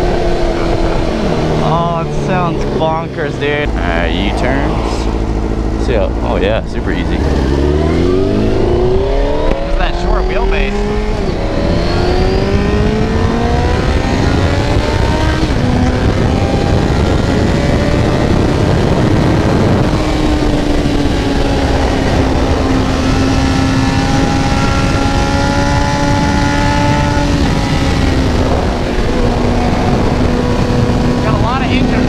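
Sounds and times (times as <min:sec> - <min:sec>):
motorcycle engine revving: 0:00.0 - 0:32.0
wind rush on microphone: 0:00.0 - 0:32.0.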